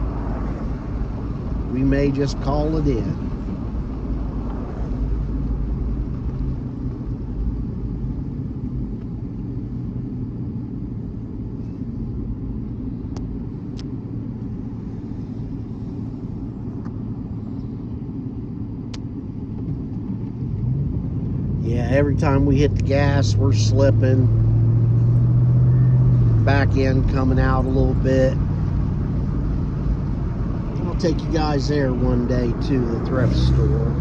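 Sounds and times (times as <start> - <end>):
vehicle engine and tyres rumbling: 0.0 - 34.0.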